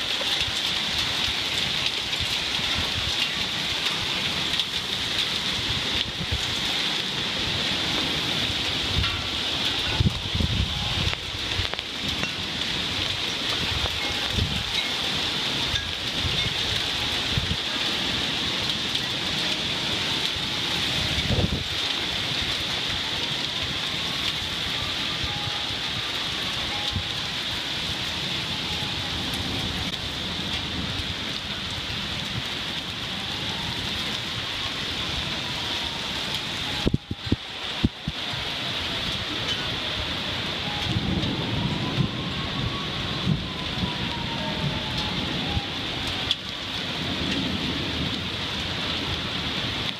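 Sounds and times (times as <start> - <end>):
heavy rain pouring: 0.0 - 49.9
wind and thunder rumbling: 0.0 - 49.9.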